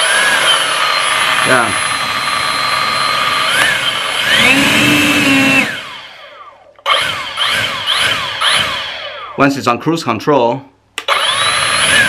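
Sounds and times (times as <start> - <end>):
leaf blower whine: 0.0 - 9.4, 11.1 - 12.0.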